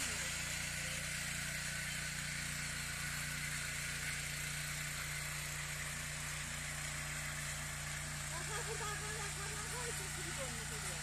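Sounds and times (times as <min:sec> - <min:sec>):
tiller engine running: 0:00.0 - 0:11.0.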